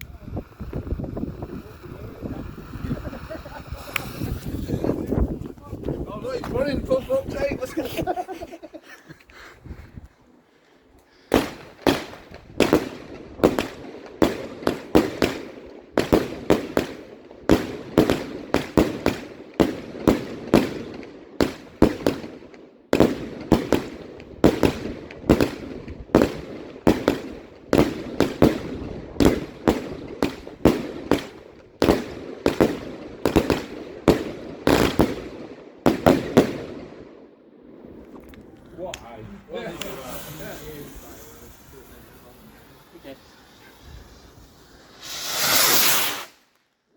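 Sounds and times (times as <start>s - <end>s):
fireworks banging: 0.0s - 8.8s, 11.3s - 37.1s, 37.7s - 46.6s.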